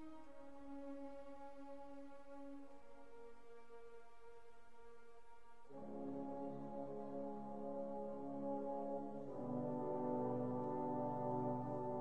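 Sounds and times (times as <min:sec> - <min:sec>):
background music of held chords: 0:00.0 - 0:12.0.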